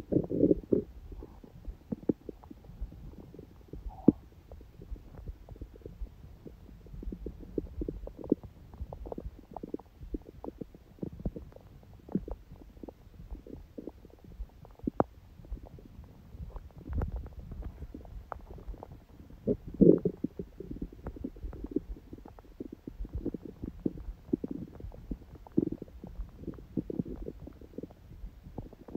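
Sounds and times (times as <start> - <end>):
stomach gurgling: 0.0 - 28.9.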